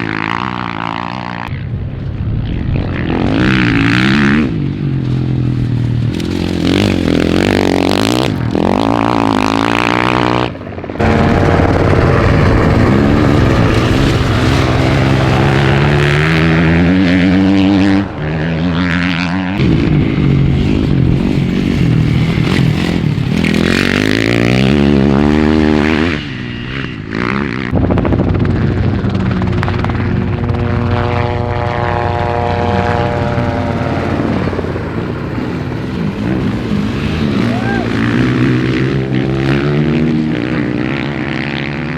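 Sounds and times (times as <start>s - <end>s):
dirt bike engine revving: 2.6s - 41.9s.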